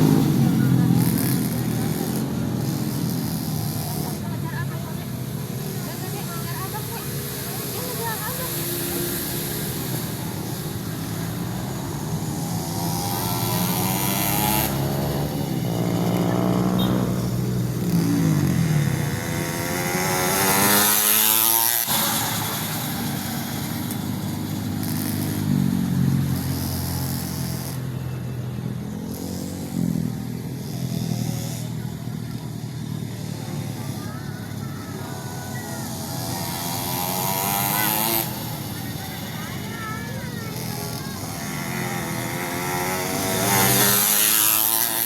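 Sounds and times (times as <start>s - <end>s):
mini motorbike engines revving: 0.0s - 45.0s.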